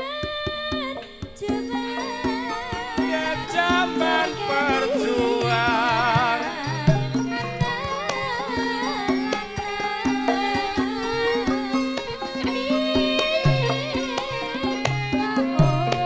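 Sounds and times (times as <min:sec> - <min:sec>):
hand drum strokes: 0:00.0 - 0:16.0
person singing with vibrato: 0:00.0 - 0:16.0.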